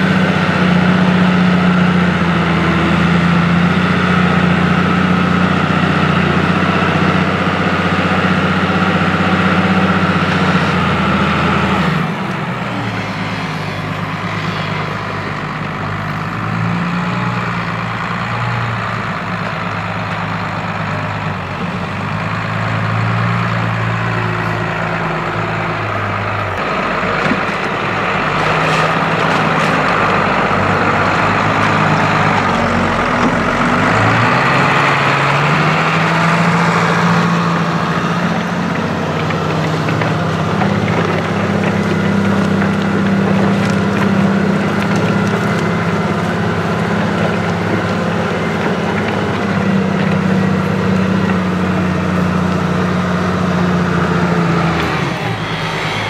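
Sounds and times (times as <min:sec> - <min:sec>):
tractor engine under load: 0:00.0 - 0:56.0.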